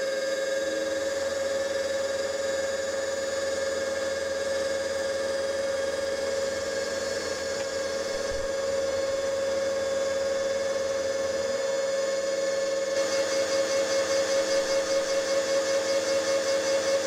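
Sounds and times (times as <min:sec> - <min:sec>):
milling machine whining: 0:00.0 - 0:17.0.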